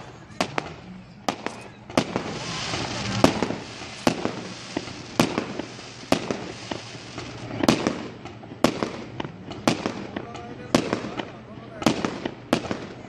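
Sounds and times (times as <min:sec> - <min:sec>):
fireworks hissing crackle: 0:00.3 - 0:13.0
fireworks bangs: 0:00.4 - 0:13.0.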